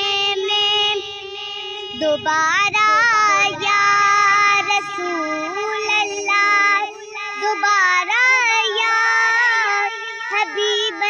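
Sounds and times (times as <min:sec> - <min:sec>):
held drone: 0:00.0 - 0:11.0
high voice singing wordless runs: 0:00.0 - 0:11.0.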